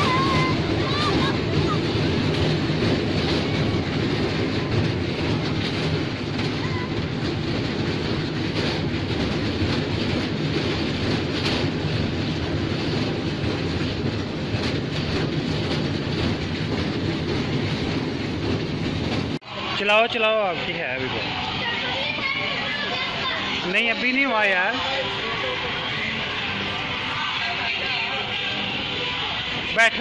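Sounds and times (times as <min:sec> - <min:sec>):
miniature train rumble and rattle: 0:00.0 - 0:30.0.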